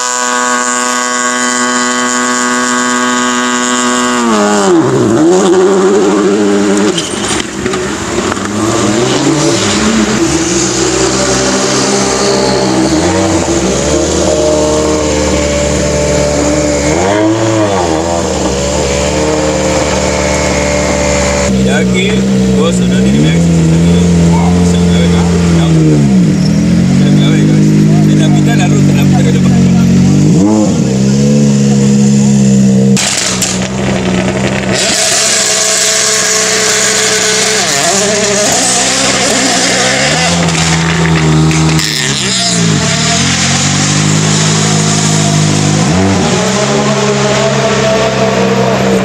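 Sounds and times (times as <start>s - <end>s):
rally car engine running: 0.0s - 49.0s.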